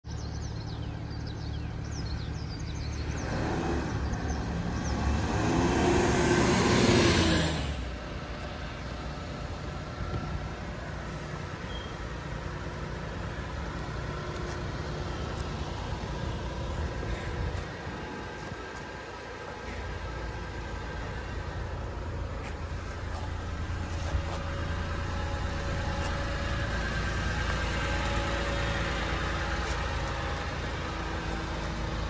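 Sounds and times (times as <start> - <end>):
small truck engine: 0.0 - 32.0.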